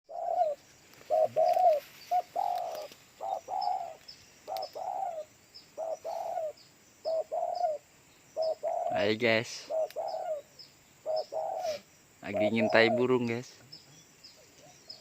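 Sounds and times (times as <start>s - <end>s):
dove cooing: 0.1s - 13.3s
faint high bird chirps: 0.1s - 15.0s.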